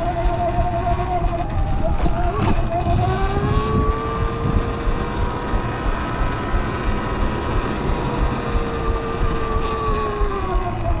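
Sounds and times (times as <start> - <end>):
electric motor whining: 0.0 - 11.0
rushing noise: 0.0 - 11.0.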